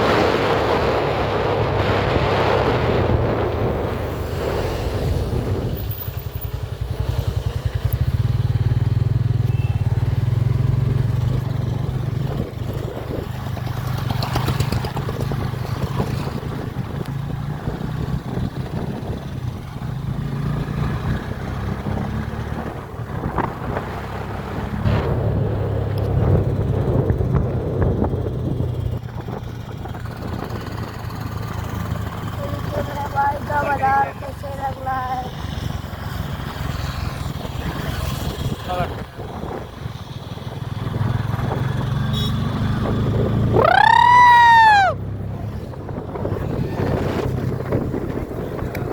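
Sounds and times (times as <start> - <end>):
motorcycle engine running: 5.2 - 48.9.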